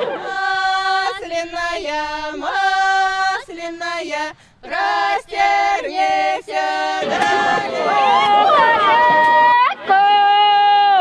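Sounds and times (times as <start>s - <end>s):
voices singing long notes: 0.0s - 11.0s.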